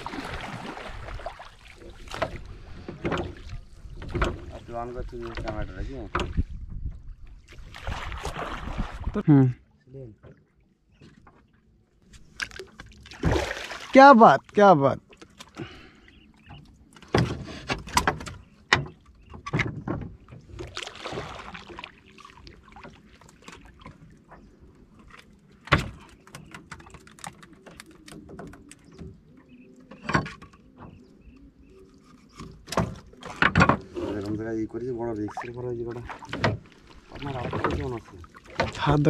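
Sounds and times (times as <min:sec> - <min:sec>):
knocks and clatter on wooden boat: 0:00.0 - 0:09.1, 0:10.1 - 0:13.5, 0:16.4 - 0:31.4, 0:32.1 - 0:39.0.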